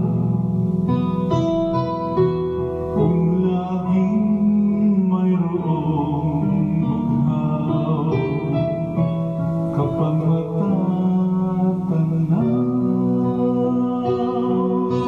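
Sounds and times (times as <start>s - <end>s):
backing music: 0.0s - 15.0s
man singing a ballad: 2.9s - 15.0s.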